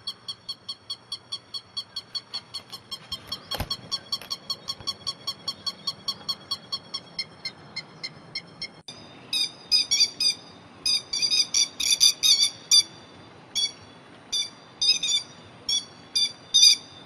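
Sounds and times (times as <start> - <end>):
lapwing calling: 0.0 - 17.0.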